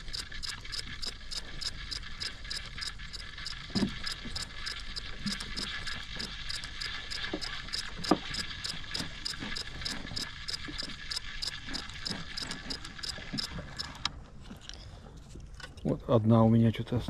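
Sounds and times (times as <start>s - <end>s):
fishing reel ticking: 0.0s - 14.1s.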